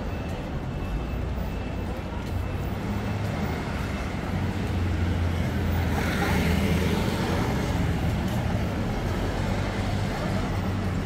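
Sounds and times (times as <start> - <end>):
city street noise: 0.0 - 11.0.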